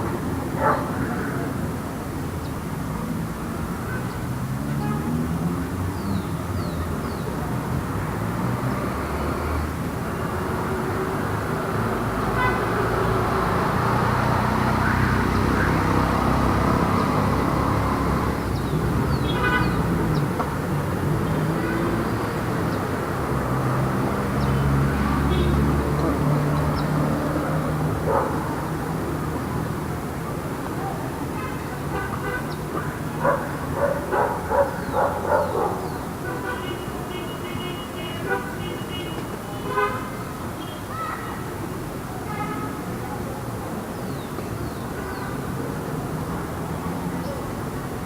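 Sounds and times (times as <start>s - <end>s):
cars passing: 0.0s - 48.0s.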